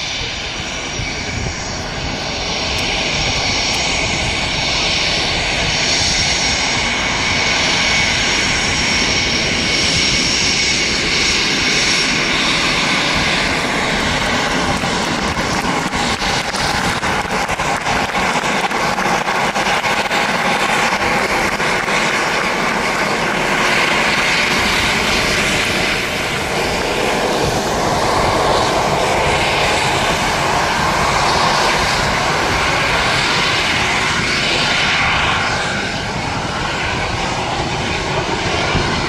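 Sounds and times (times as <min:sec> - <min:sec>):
jet engine running: 0:00.0 - 0:39.0.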